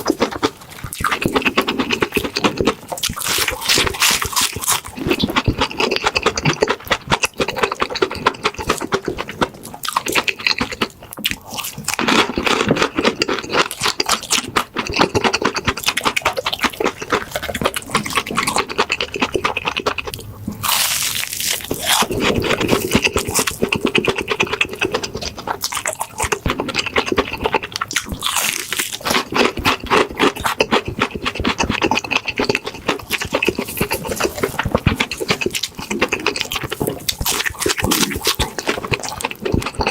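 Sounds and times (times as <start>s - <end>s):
crunchy chewing of fried food: 0.0s - 39.9s.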